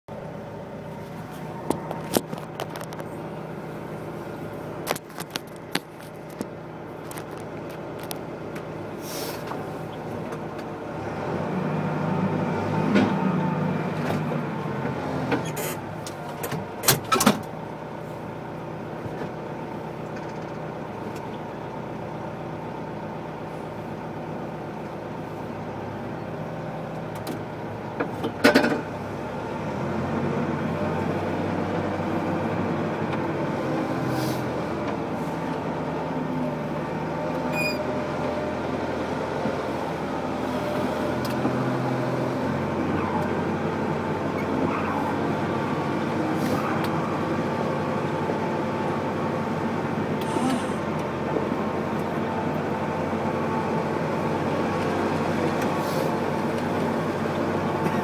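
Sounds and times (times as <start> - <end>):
forklift engine running: 0.1 - 58.0.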